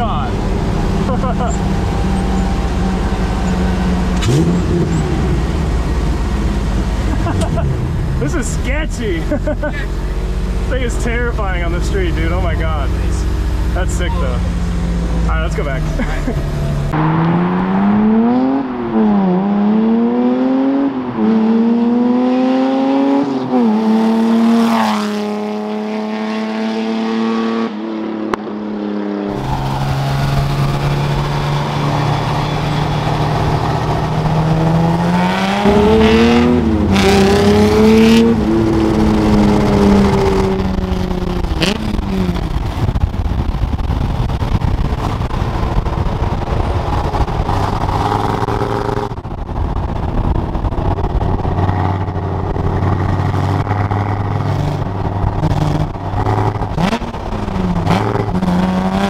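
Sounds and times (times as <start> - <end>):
buggy engine revving: 0.0 - 28.3, 28.9 - 59.0.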